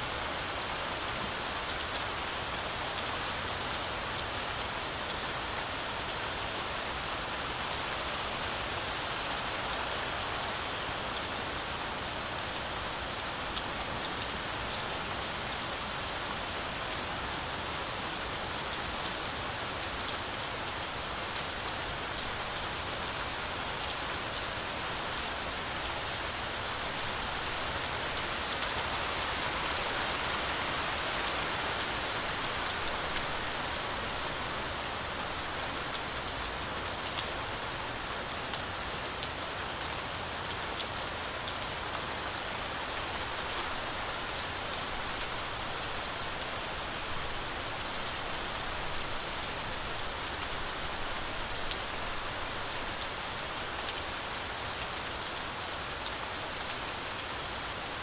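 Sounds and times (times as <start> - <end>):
heavy rain falling: 0.0 - 58.0
raindrops pattering on leaves: 0.0 - 58.0.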